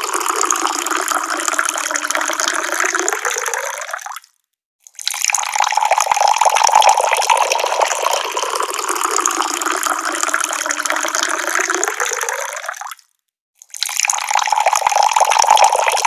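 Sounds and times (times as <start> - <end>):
water pouring from a tap: 0.0 - 13.0, 13.6 - 16.0.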